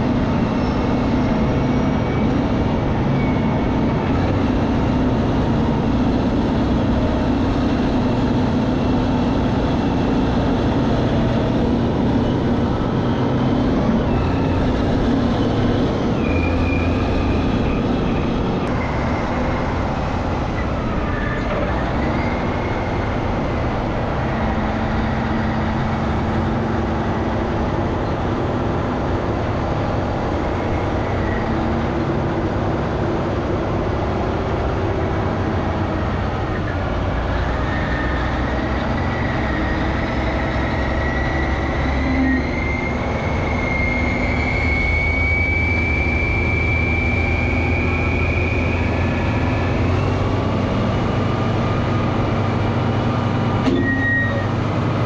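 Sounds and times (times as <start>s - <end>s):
diesel engines under heavy load: 0.0s - 55.0s.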